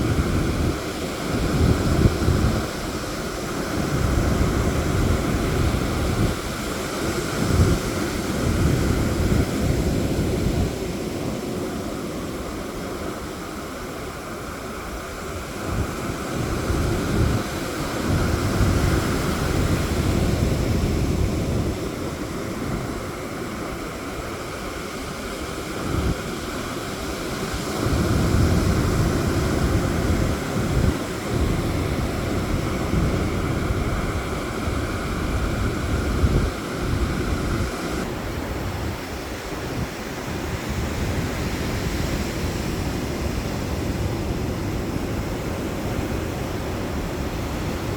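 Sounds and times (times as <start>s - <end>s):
surf washing onto beach: 0.0s - 47.9s
wind buffeting microphone: 0.0s - 47.9s.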